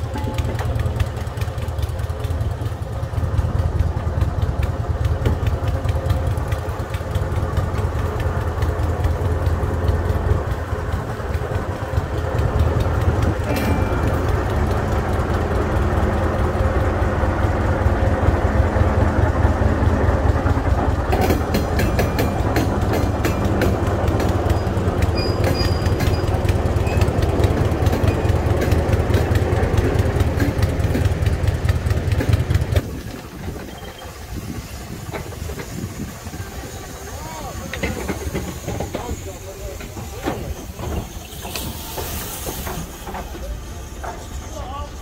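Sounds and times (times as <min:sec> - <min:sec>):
wheels clicking over rails: 0:00.0 - 0:36.4, 0:37.0 - 0:44.6
diesel locomotive engine drone: 0:00.0 - 0:45.0.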